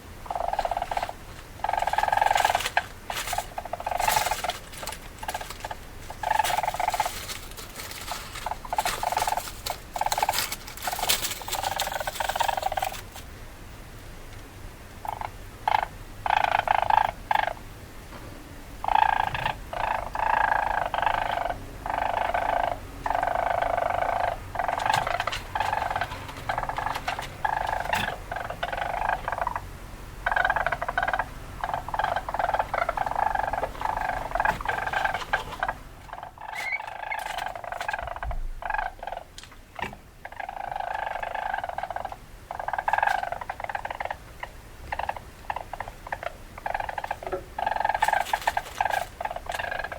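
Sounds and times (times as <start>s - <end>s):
weasel calls: 0.2s - 13.0s, 15.0s - 17.6s, 18.8s - 49.9s.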